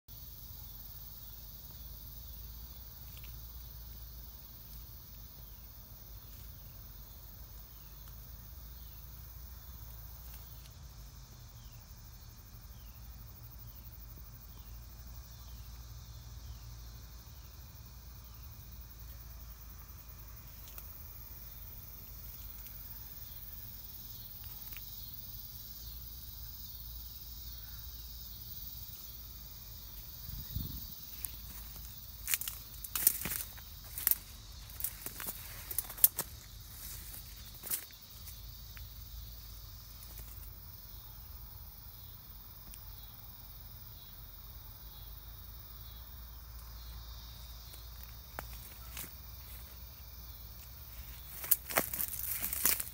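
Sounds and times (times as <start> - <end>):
cricket chirp: 0.0 - 52.9.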